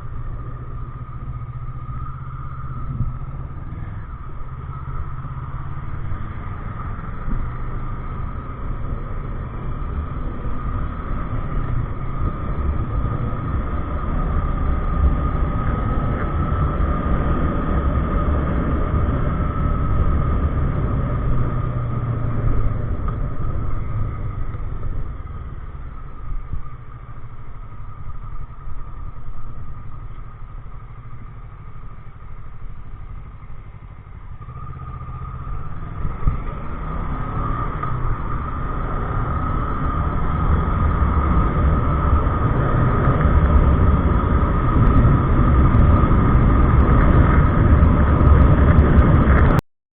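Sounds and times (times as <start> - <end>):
motorcycle engine rumbling: 0.0 - 49.6.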